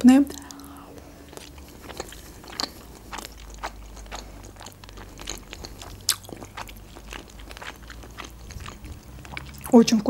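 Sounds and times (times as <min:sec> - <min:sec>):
person chewing with wet clicks: 0:00.2 - 0:10.0.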